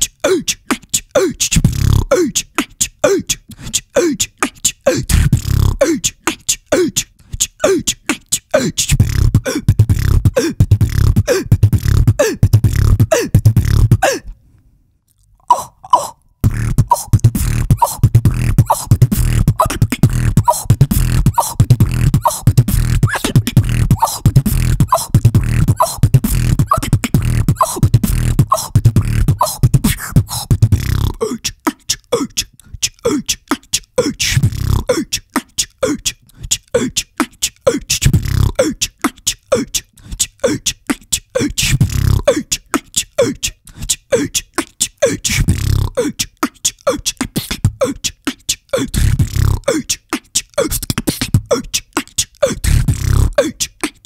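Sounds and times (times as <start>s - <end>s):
woman beatboxing: 0.0s - 14.4s, 15.4s - 54.0s.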